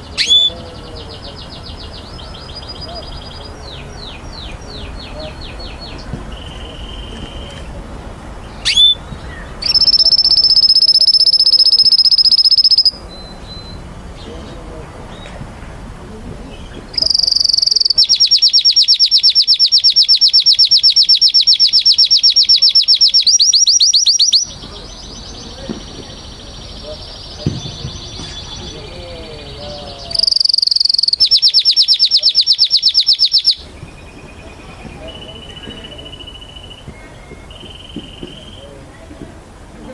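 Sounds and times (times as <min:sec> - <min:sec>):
canary singing: 0:00.0 - 0:07.8, 0:08.4 - 0:14.6, 0:16.5 - 0:38.9.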